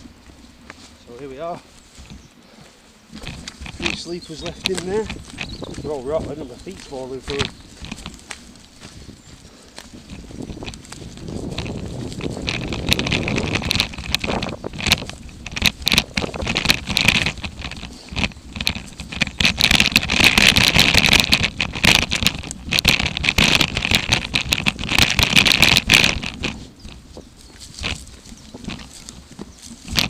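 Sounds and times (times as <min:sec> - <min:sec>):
footsteps crunching on wooden sleepers: 0:00.0 - 0:30.0.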